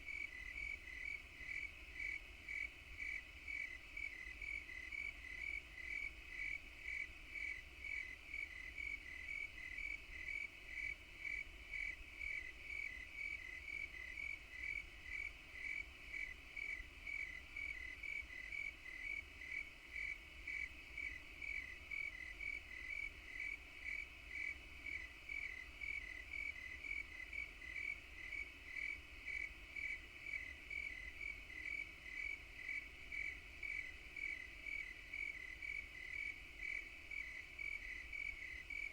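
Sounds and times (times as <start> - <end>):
insect chirping: 0.1 - 38.9.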